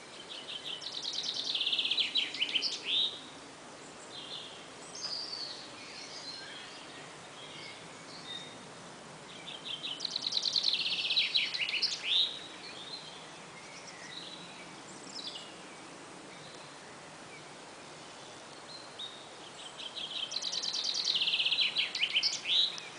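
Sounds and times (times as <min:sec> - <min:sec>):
faint bird chirps: 0:00.0 - 0:08.6, 0:09.3 - 0:22.9
songbird singing rapid trill: 0:00.0 - 0:22.9
steady outdoor hiss: 0:00.0 - 0:22.9.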